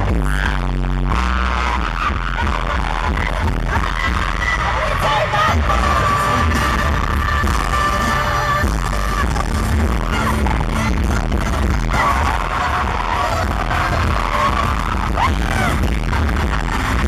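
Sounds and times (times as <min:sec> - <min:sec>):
live pop song over sound system: 0:00.0 - 0:17.0
pounding bass beat: 0:00.0 - 0:17.0.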